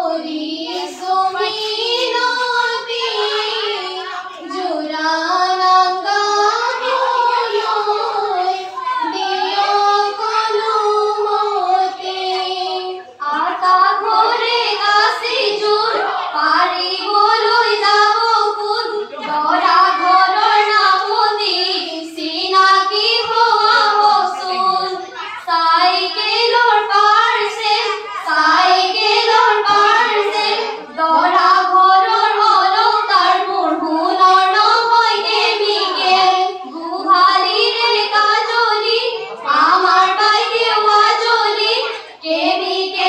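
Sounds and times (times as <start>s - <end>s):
girls singing through microphones: 0.0s - 43.0s.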